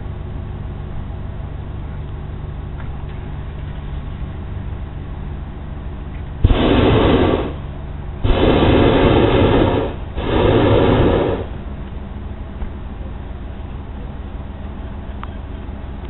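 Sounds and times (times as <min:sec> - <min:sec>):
propane burner blasts: 0:00.0 - 0:14.8.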